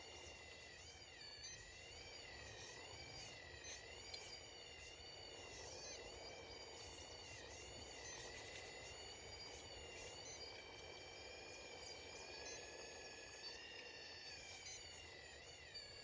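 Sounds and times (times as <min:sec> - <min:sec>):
model excavator motor whining: 0:00.0 - 0:16.0.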